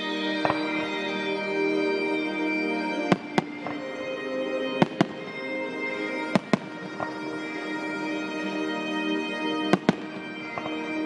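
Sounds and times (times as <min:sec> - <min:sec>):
music playing: 0:00.0 - 0:11.0.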